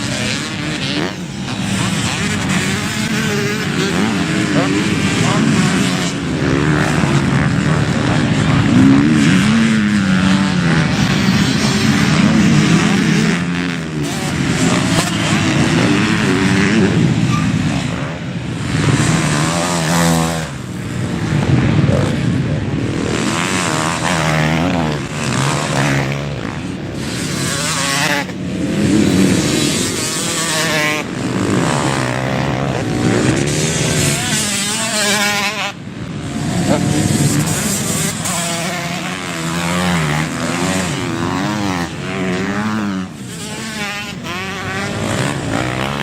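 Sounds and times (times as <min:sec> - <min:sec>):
motocross bike engine revving: 0:00.0 - 0:46.0.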